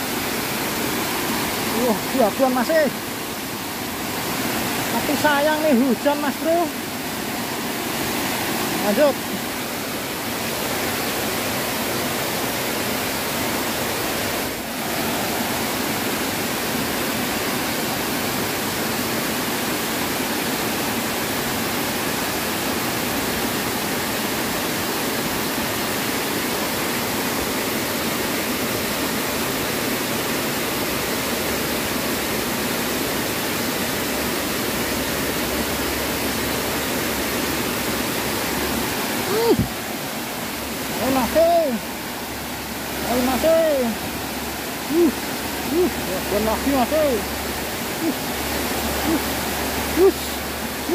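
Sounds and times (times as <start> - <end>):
water rushing over weir: 0.0 - 50.9.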